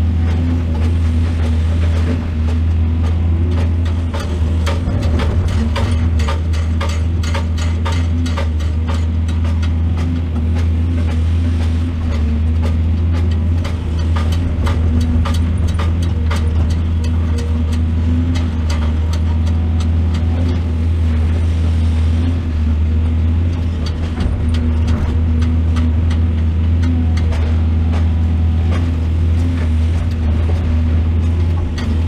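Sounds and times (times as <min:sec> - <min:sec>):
diesel excavator engine running: 0:00.0 - 0:32.0
knocks and clatter: 0:00.2 - 0:32.0.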